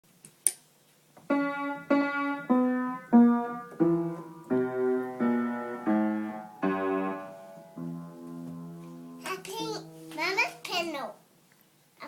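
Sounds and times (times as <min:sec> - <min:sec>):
piano notes: 0:01.2 - 0:11.3.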